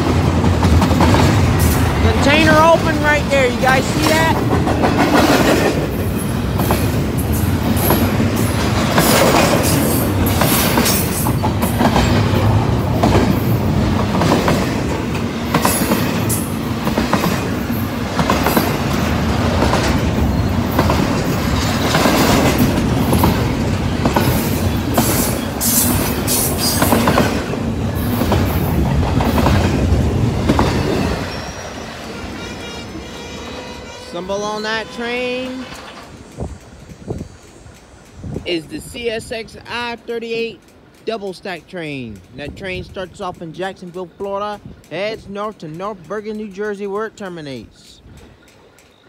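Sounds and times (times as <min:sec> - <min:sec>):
wheels clicking and clattering: 0:00.0 - 0:32.1, 0:35.7 - 0:49.0
train wheels rumbling on rail: 0:00.0 - 0:49.0.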